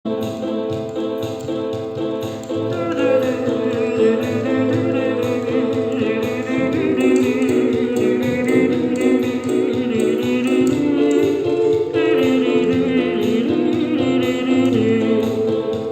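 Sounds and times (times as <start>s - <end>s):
keyboard song with beat: 0.0s - 15.9s
woman singing: 2.6s - 15.9s.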